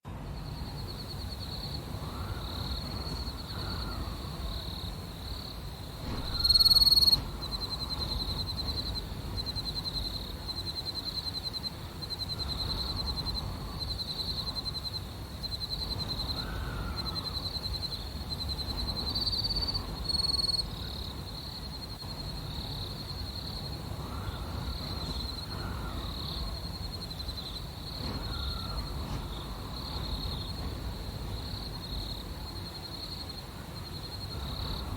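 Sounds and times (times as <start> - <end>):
low wind: 0.0 - 34.9
crickets chirping: 0.1 - 34.9.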